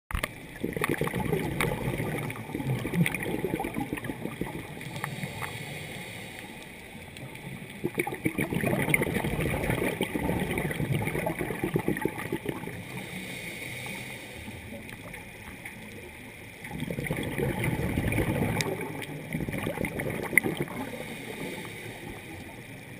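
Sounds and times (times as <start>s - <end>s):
bubbles gurgling underwater: 0.1s - 5.6s, 7.2s - 13.1s, 14.7s - 22.9s.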